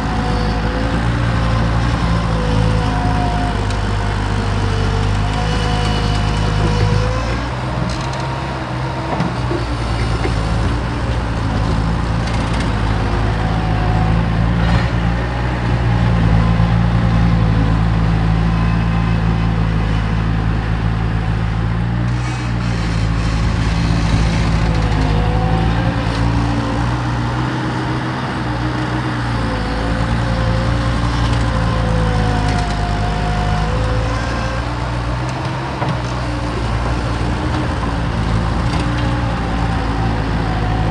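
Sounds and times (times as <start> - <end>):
loader engine under load: 0.0 - 40.9.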